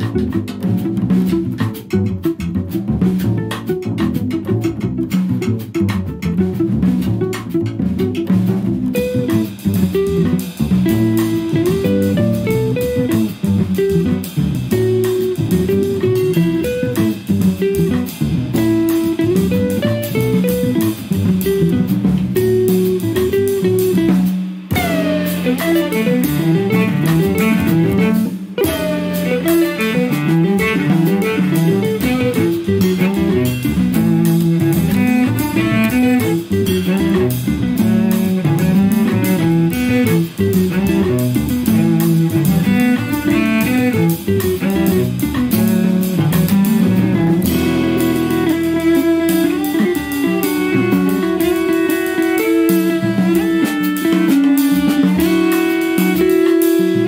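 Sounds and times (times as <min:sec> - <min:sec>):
cello: 0:00.0 - 0:57.0
double bass: 0:00.0 - 0:57.0
drums and cymbals: 0:00.0 - 0:57.0
electric guitar: 0:00.0 - 0:57.0.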